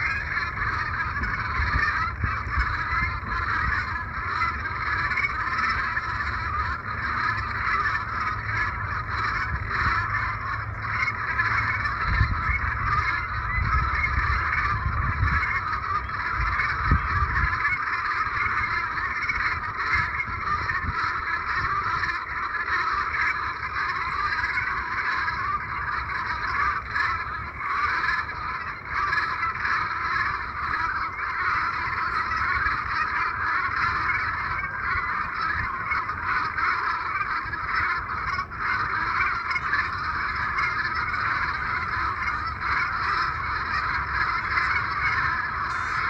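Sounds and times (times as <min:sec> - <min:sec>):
flock of geese honking: 0:00.0 - 0:46.0.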